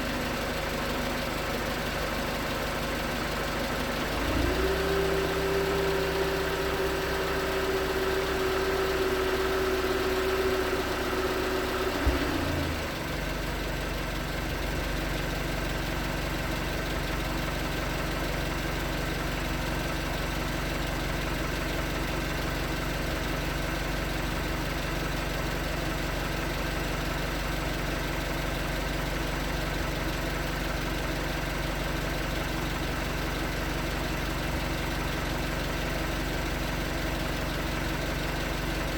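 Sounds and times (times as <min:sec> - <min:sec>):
car engine idling with knocking: 0:00.0 - 0:38.9.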